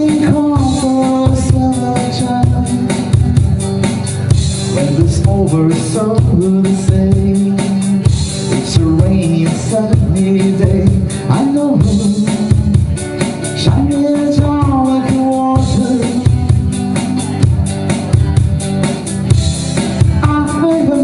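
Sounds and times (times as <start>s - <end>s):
man singing: 0.0s - 3.6s, 4.6s - 21.0s
acoustic guitar strumming: 0.0s - 21.0s
percussive beat: 0.0s - 21.0s.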